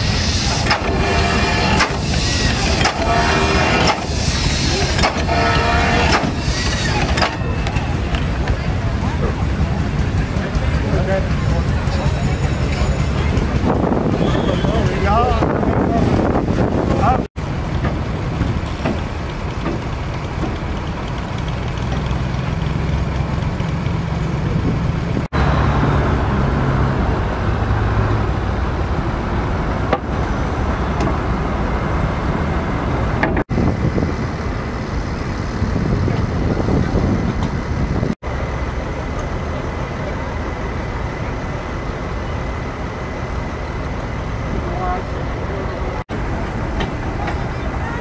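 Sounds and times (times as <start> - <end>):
heavy vehicle engine rumbling: 0.0 - 48.0
outdoor background noise: 0.0 - 48.0.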